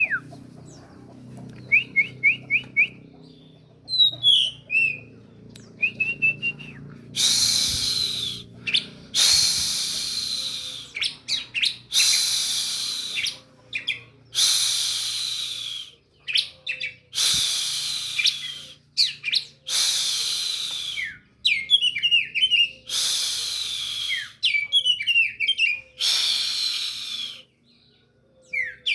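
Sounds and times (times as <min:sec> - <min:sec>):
bird singing: 0:00.0 - 0:17.2, 0:17.8 - 0:22.9, 0:23.5 - 0:26.0, 0:26.9 - 0:28.9.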